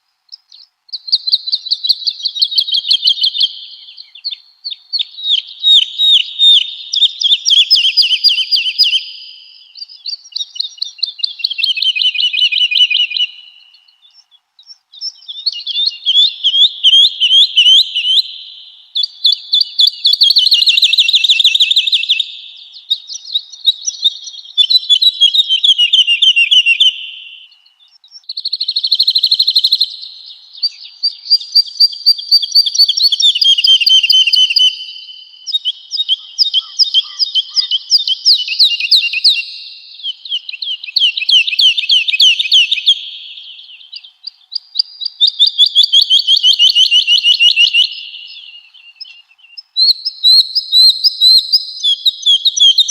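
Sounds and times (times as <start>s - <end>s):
woodlark singing: 0.0s - 52.9s.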